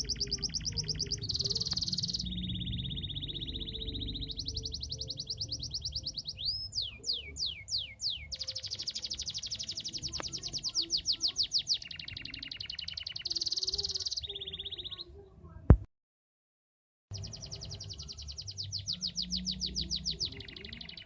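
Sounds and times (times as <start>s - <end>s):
canary singing trills: 0.0s - 15.3s, 17.1s - 21.0s.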